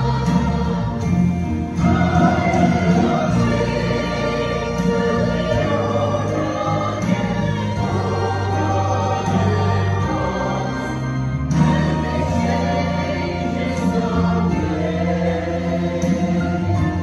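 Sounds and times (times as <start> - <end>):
choir singing a gospel hymn: 0.0 - 17.0
held low accompaniment notes: 0.0 - 17.0.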